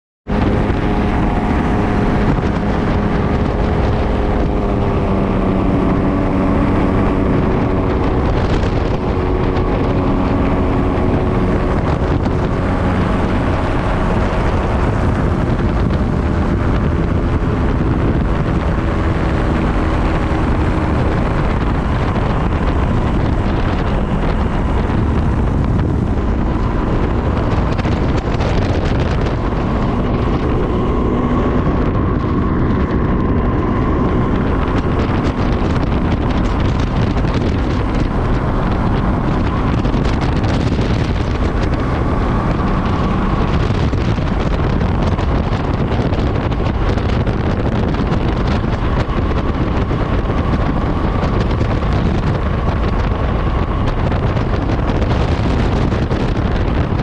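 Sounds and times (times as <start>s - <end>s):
wind rush on microphone: 0.2s - 57.0s
aircraft engine and propeller: 0.3s - 57.0s.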